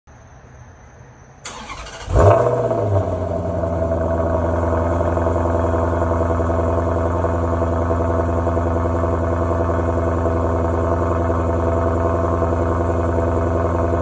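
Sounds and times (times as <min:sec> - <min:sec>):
car engine flaring and idling: 0:01.5 - 0:14.0.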